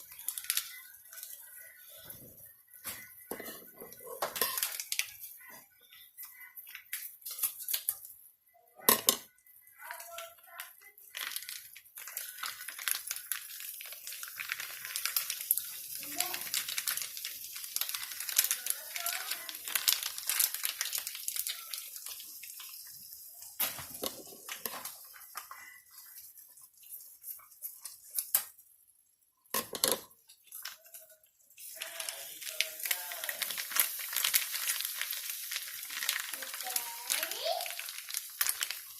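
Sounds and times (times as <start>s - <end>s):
plastic packets crinkling: 0.0s - 8.2s, 9.4s - 28.7s, 29.8s - 38.9s.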